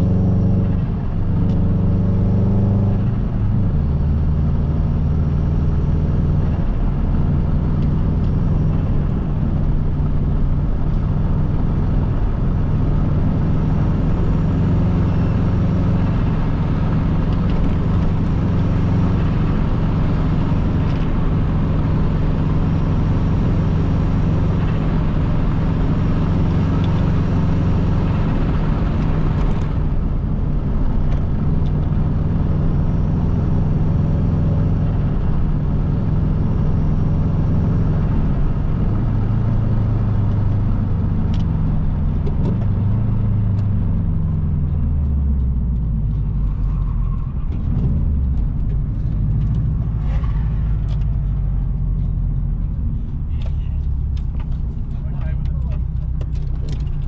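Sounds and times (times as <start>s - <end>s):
car engine running steadily: 0.0s - 57.0s
road noise: 0.0s - 57.0s.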